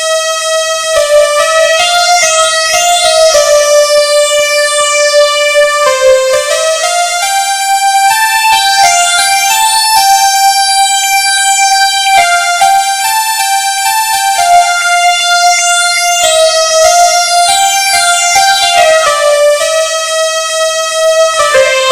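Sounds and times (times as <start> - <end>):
electronic keyboard ringtone melody: 0.9 - 20.0, 21.3 - 21.9.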